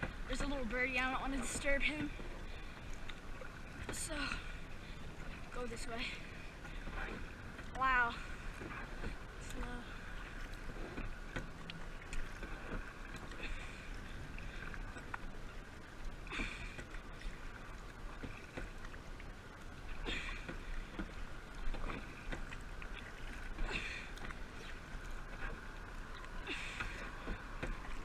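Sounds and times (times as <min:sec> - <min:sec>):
paddle strokes splashing water: 0:00.0 - 0:28.0.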